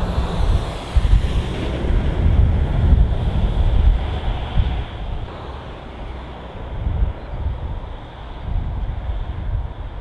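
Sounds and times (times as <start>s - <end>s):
steady rushing noise: 0.0s - 10.0s
wind buffeting microphone: 0.0s - 10.0s.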